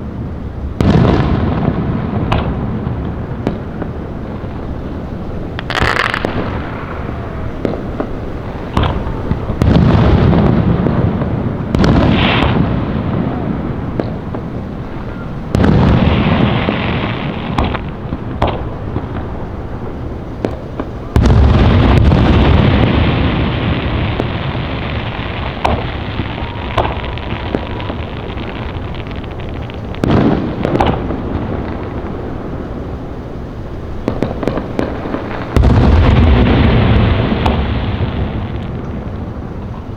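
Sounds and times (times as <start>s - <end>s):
fireworks crackling and banging: 0.0s - 39.9s
rumbling firework booms: 0.0s - 39.9s.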